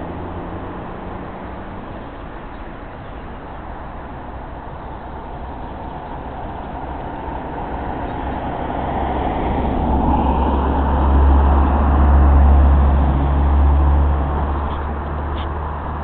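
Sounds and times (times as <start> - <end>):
vehicle passing close by: 0.0 - 16.0.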